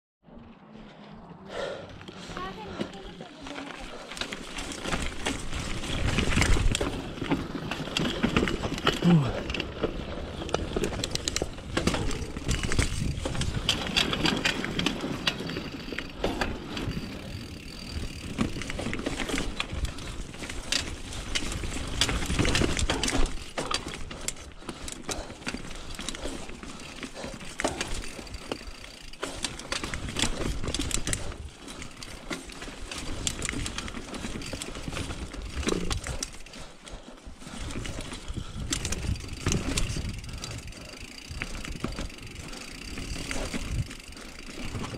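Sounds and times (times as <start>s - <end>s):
bike tyres on gravel: 0.3s - 44.9s
bike rattling over rocks: 2.1s - 44.9s.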